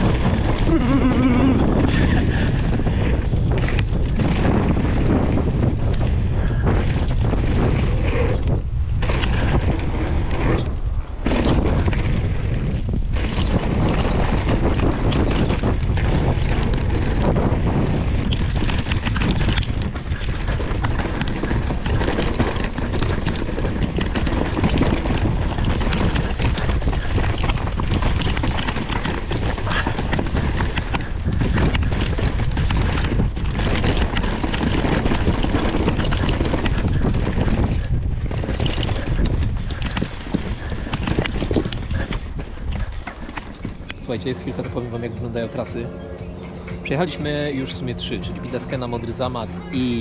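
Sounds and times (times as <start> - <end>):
bike tyres and frame rattling: 0.0 - 50.0
wind buffeting microphone: 0.0 - 50.0.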